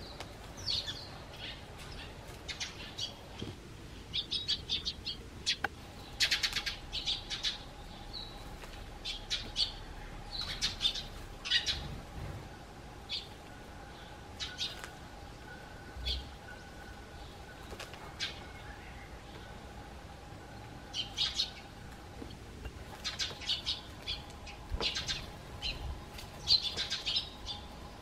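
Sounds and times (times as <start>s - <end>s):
sparrows chirping: 0.0s - 28.0s.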